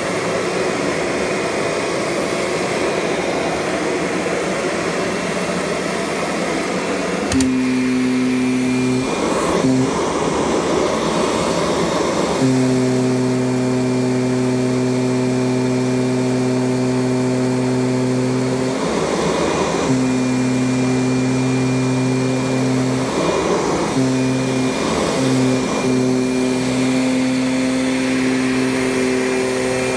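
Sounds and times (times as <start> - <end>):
vacuum cleaner motor hum: 0.0 - 29.9.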